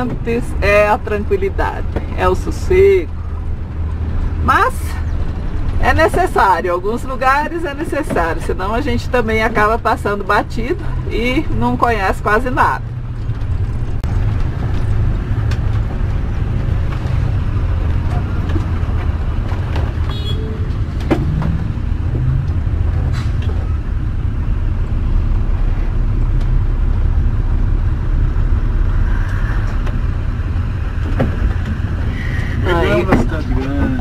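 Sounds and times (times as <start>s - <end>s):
engine rumble inside vehicle: 0.0s - 34.0s.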